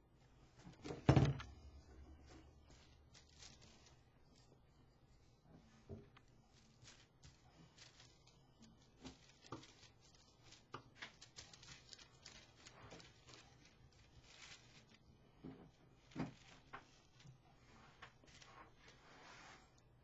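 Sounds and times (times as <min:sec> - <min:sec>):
tissue paper taps and rustles: 0:00.6 - 0:04.5, 0:05.6 - 0:19.9.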